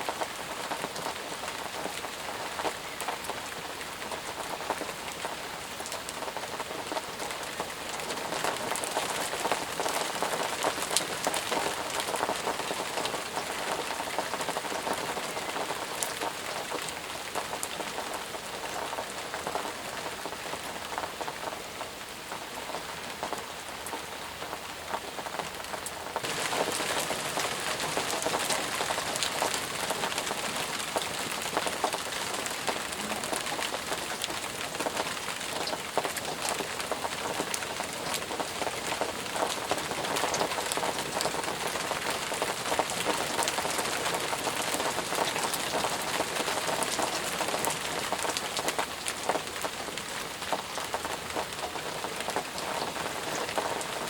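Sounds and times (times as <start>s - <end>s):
raindrops pattering: 0.0s - 54.0s
heavy rain hissing: 6.8s - 54.0s.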